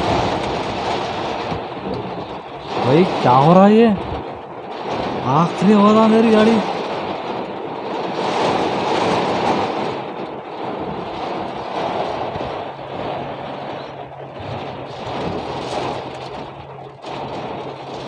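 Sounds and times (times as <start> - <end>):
rain drumming on car roof: 0.0 - 18.0.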